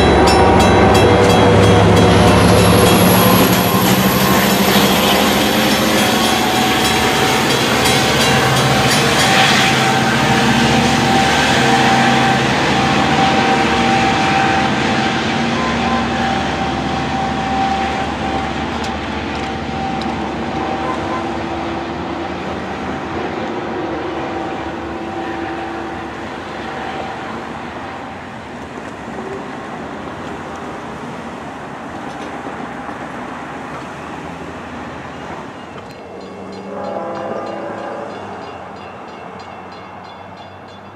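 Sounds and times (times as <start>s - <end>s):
train running on tracks: 0.0s - 40.9s.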